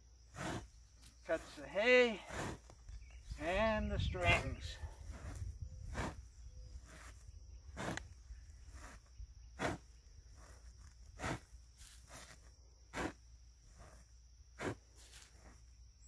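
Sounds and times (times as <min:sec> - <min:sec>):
knife sawing through hay bale: 0:00.3 - 0:02.7, 0:04.9 - 0:15.7.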